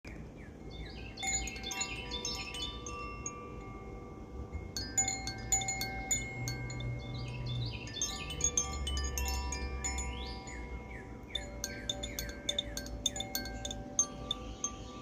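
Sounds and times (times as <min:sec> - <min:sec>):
ringing bell-like tones: 0:00.6 - 0:15.0
wind chime clapper striking rods: 0:00.7 - 0:15.0.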